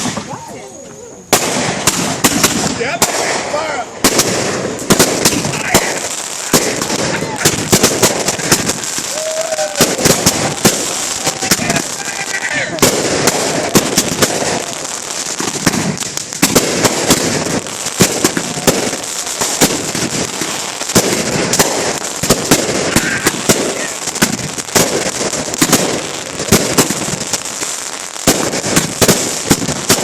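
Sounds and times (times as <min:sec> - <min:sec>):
fireworks cracking and banging: 0:00.0 - 0:30.0
steady hiss: 0:00.0 - 0:30.0.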